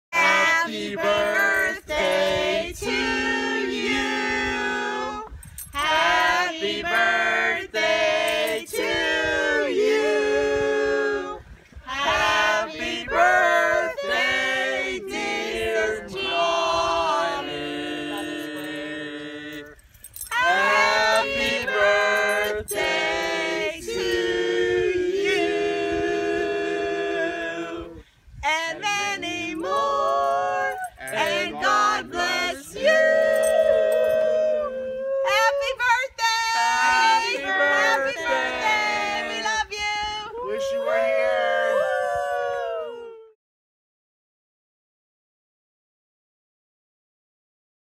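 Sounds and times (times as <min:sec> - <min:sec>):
group singing birthday song: 0:00.1 - 0:34.6, 0:35.3 - 0:42.2.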